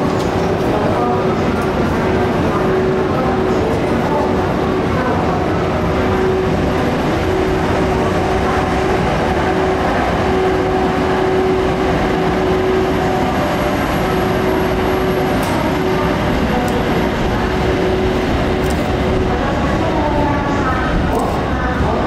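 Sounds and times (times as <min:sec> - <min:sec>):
constant hum: 0:00.0 - 0:22.0
train running gear rumbling: 0:00.0 - 0:22.0.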